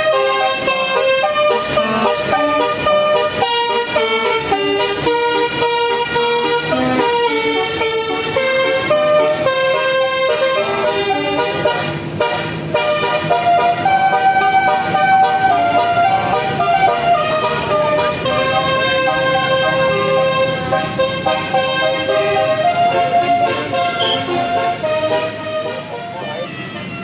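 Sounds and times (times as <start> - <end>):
multi-tone bus horn tune: 0.0 - 27.0.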